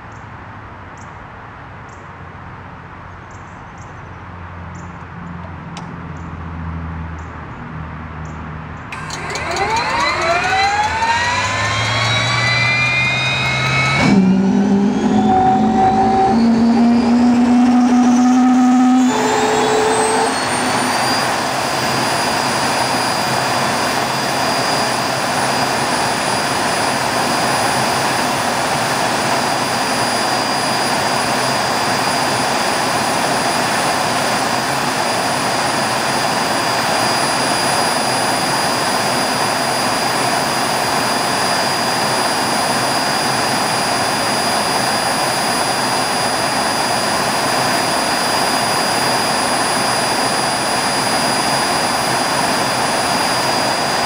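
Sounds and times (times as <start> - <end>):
jet turbine running: 8.9 - 54.0.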